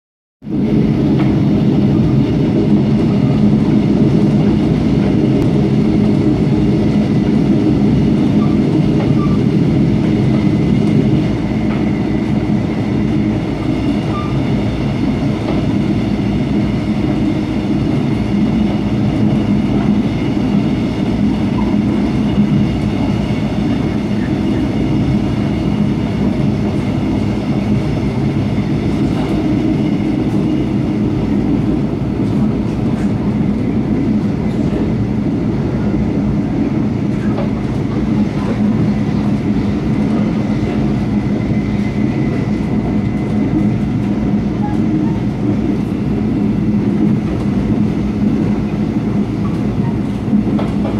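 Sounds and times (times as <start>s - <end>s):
train wheels rumbling on rails: 0.4s - 50.9s.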